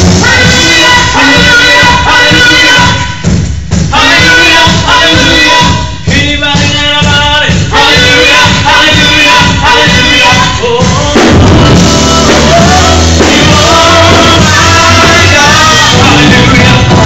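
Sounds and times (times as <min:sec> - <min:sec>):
keyboard and band accompaniment: 0:00.0 - 0:17.0
man singing into a microphone: 0:00.2 - 0:03.2, 0:03.8 - 0:17.0.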